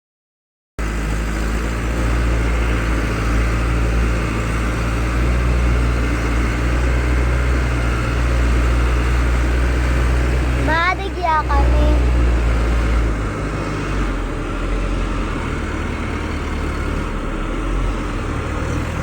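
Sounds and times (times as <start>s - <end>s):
pickup truck engine running: 0.8s - 19.0s.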